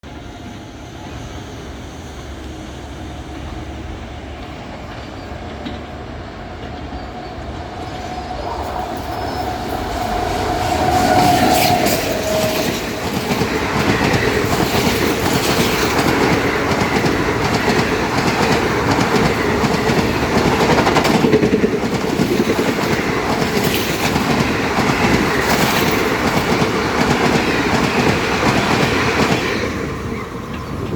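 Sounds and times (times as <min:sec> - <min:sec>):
train rumbling past: 0:00.0 - 0:30.9.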